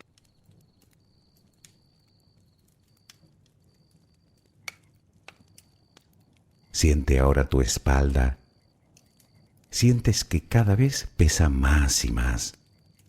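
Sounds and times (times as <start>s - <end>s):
bonfire crackling and popping: 0.0s - 13.0s
low rumble of flames: 0.0s - 13.0s.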